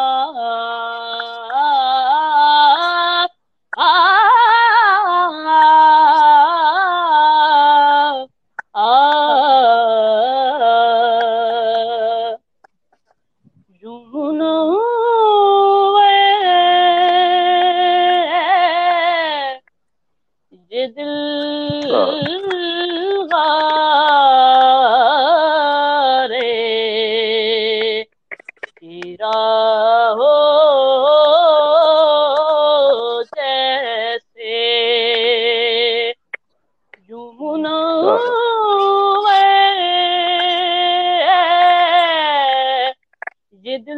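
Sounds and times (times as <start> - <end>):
boy singing unaccompanied: 0.0 - 12.4, 13.7 - 19.7, 20.5 - 36.4, 37.0 - 43.9.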